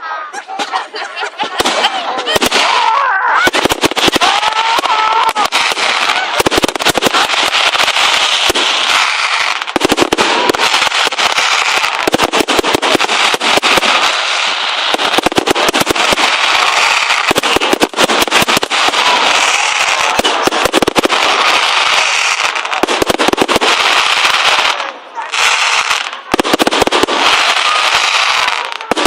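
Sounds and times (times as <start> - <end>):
fireworks cracking and crackling: 0.1 - 29.0.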